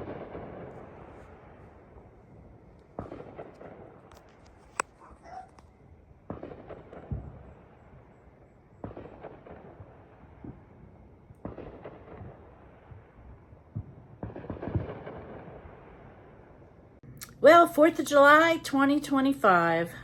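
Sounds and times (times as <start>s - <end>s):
distant fireworks bangs: 0.0s - 17.1s.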